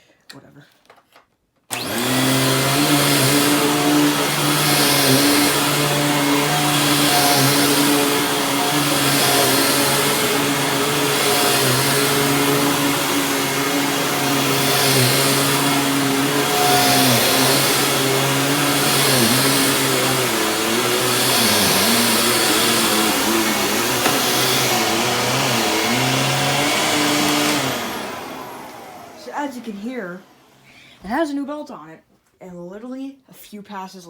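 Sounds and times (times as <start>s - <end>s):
vacuum cleaner motor hum: 1.7s - 30.7s
vacuum air rushing on carpet: 1.8s - 30.6s.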